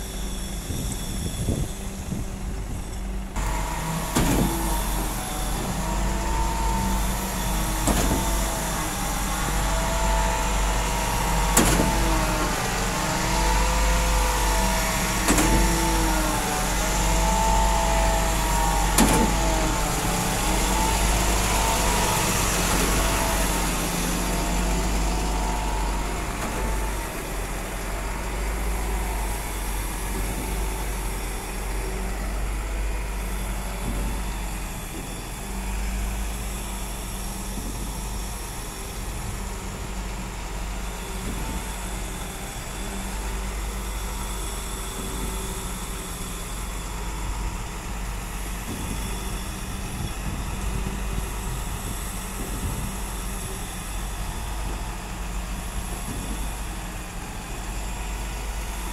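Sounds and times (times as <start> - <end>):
diesel engine rumble: 0.0 - 58.9
rising and falling whine: 3.3 - 51.8.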